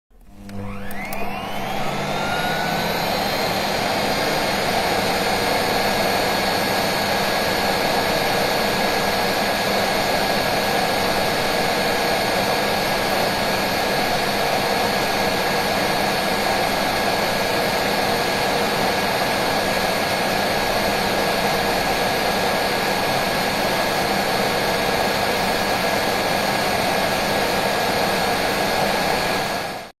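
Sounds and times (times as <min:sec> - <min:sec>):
shop vacuum whining: 0:00.1 - 0:29.9.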